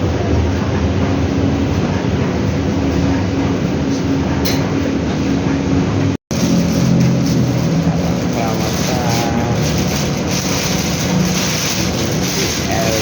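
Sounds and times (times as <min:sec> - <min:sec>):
washing machines rumbling: 0:00.0 - 0:13.0.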